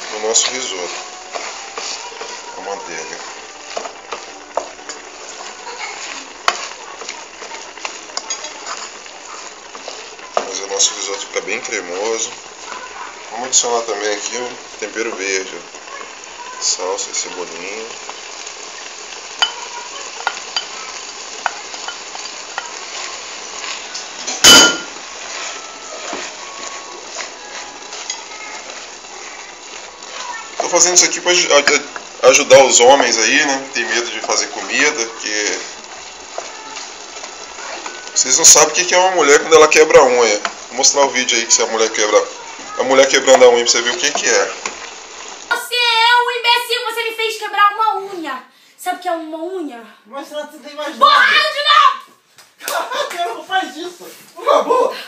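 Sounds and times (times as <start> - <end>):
food sizzling in pot: 0.0 - 55.0.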